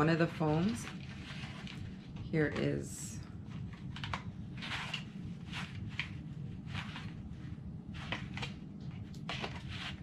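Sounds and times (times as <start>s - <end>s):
steady low hum: 0.0s - 10.0s
plastic and foam pads handled: 0.4s - 10.0s.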